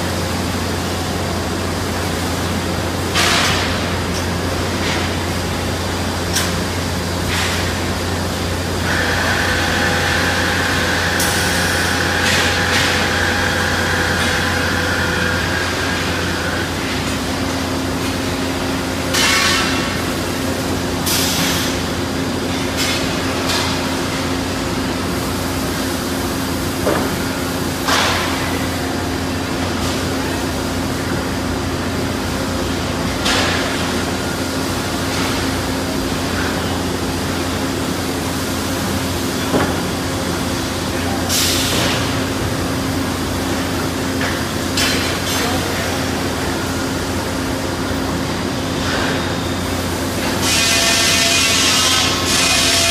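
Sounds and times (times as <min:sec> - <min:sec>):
folding machine humming: 0:00.0 - 0:52.9.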